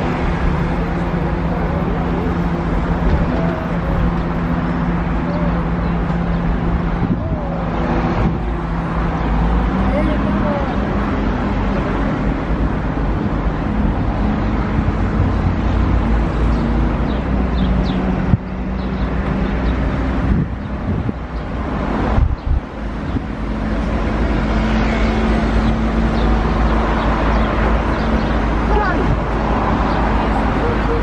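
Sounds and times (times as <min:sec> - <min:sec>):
bus engine humming: 0:00.0 - 0:31.0
bus road noise: 0:00.0 - 0:31.0
city traffic: 0:00.0 - 0:31.0.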